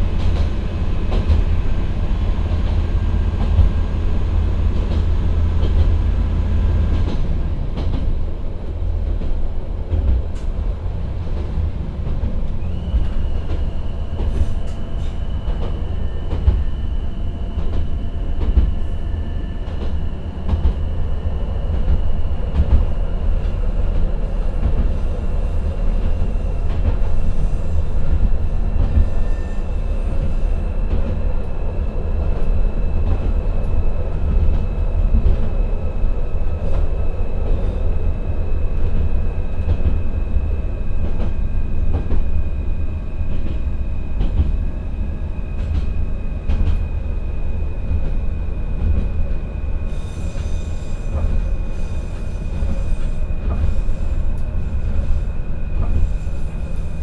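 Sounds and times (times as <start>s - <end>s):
deep rumble of train wheels: 0.0s - 57.0s.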